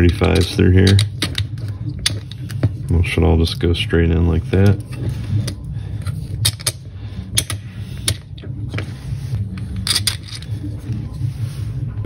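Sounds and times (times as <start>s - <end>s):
low rustling rumble of handling: 0.0s - 12.0s.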